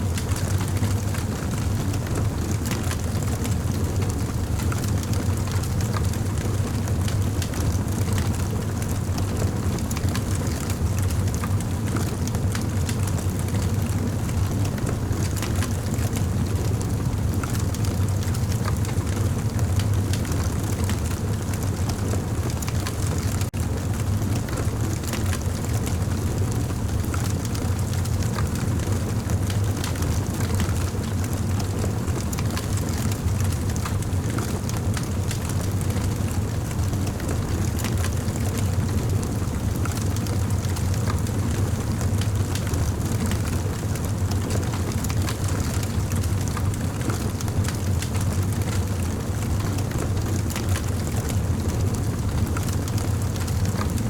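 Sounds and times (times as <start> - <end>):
campfire flames rumbling: 0.0 - 54.0
fire crackles and pops: 0.1 - 54.0.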